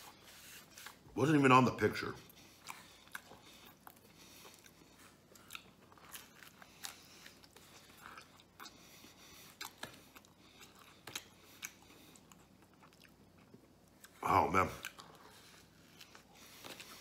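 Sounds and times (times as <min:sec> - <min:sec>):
chewing food: 0:02.2 - 0:17.0.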